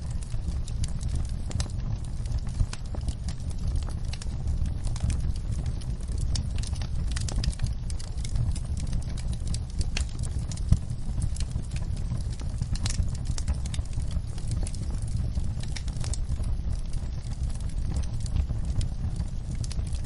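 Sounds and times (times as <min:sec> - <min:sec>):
low rumble: 0:00.0 - 0:20.0
wood fire crackling: 0:00.0 - 0:20.0.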